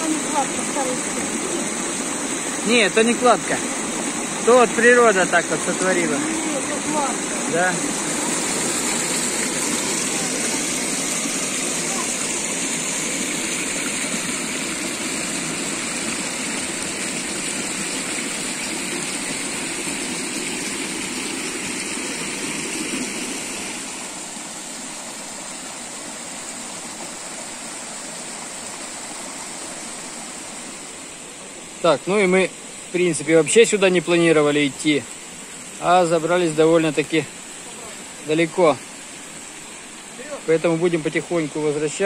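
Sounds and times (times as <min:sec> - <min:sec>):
river rushing over rocks: 0:00.0 - 0:42.0.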